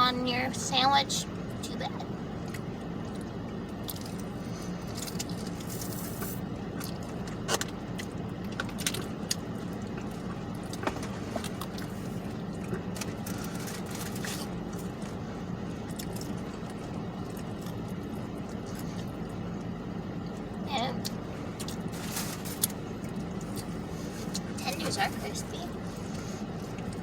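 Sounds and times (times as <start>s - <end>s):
steady low hum: 0.0s - 27.0s
crunching and chewing: 2.3s - 27.0s
crackles and rustles: 2.4s - 20.5s, 21.1s - 27.0s.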